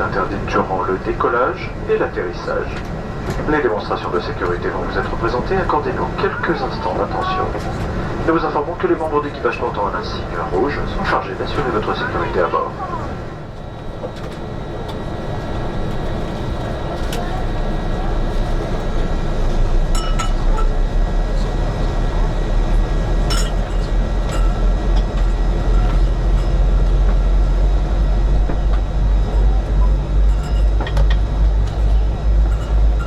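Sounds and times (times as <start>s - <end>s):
airplane cabin rumble: 0.0s - 33.0s.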